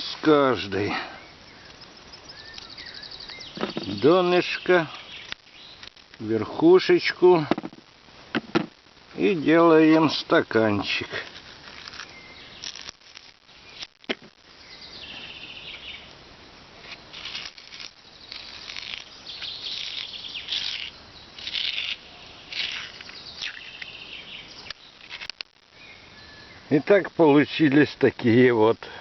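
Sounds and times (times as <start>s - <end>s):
birds chirping and trilling: 0.0s - 7.3s, 9.2s - 16.1s, 16.8s - 29.0s.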